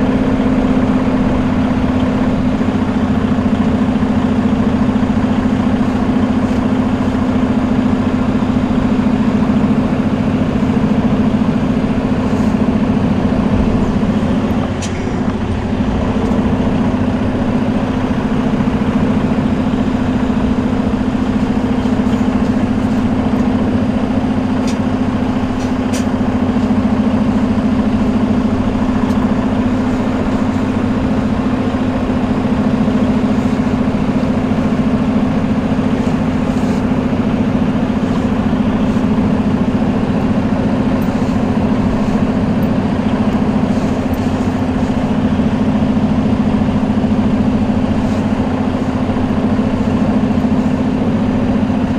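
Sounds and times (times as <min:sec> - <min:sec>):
truck engine and road drone: 0:00.0 - 0:51.9.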